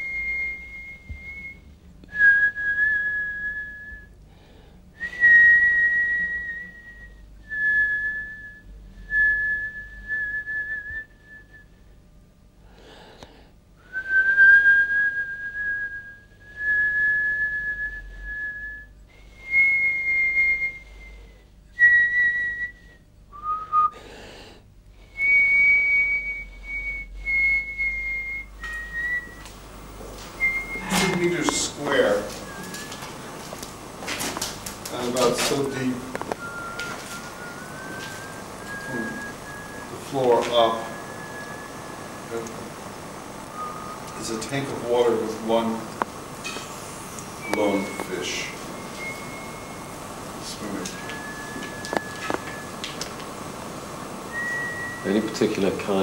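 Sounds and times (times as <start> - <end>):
slow whistling: 0.0 - 11.9, 13.8 - 24.0, 25.0 - 33.7, 34.4 - 42.8, 43.4 - 45.9, 47.2 - 56.0.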